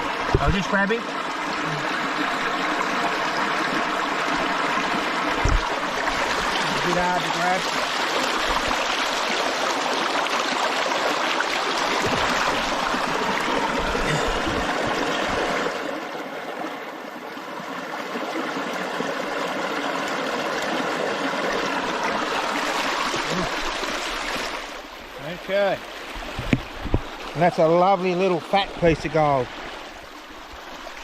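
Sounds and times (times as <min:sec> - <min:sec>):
creek water over rocks: 0:00.0 - 0:31.0.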